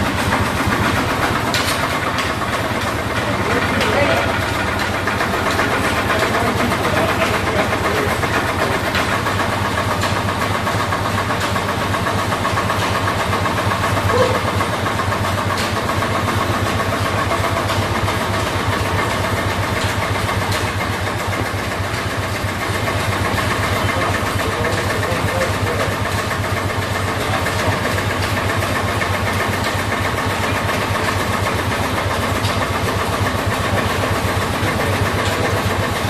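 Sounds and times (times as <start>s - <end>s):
stationary engines running: 0.0s - 36.0s.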